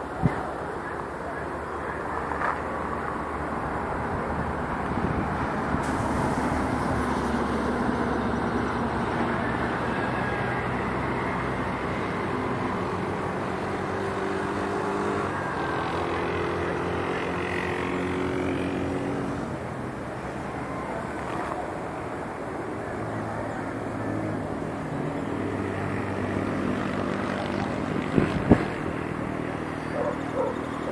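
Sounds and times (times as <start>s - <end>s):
city traffic din: 0.0s - 30.9s.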